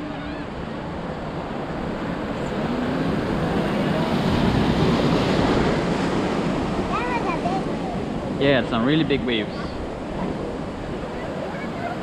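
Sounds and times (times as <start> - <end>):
sea waves breaking against jetty: 0.0 - 12.0.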